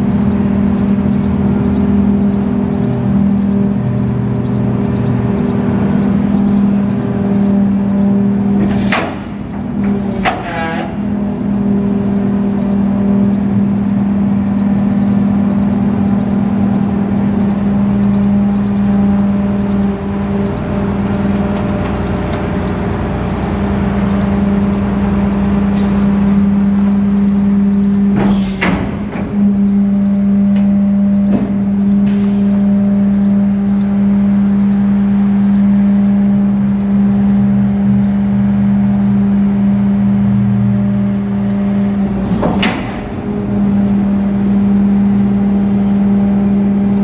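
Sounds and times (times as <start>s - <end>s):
garbage truck engine and hydraulics: 0.0s - 47.0s.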